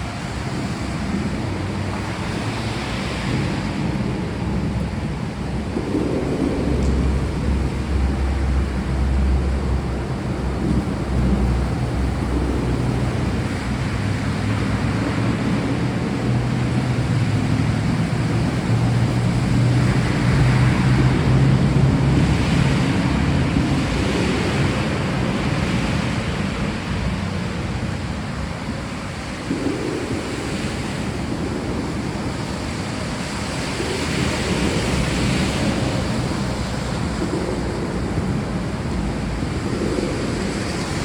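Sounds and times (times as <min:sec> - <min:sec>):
heavy rain: 0:00.0 - 0:41.0
thunder rumbling: 0:00.0 - 0:41.0
wind: 0:00.0 - 0:41.0.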